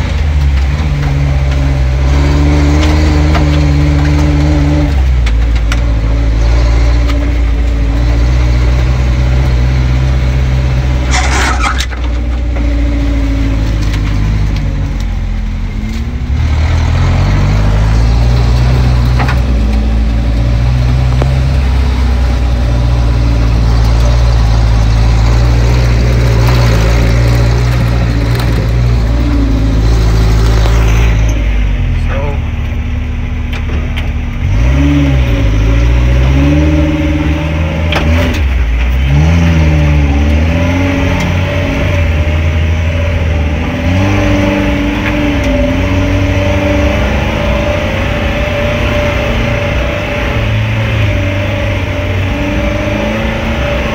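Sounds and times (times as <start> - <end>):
engine running under load: 0.0 - 53.9.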